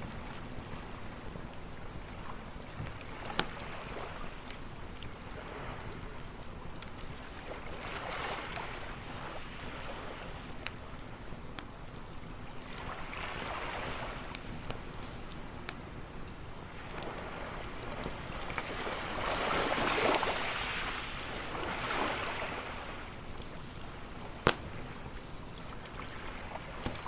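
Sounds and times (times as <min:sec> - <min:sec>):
campfire crackling: 0:00.0 - 0:27.0
ocean waves washing onto beach: 0:00.0 - 0:27.0.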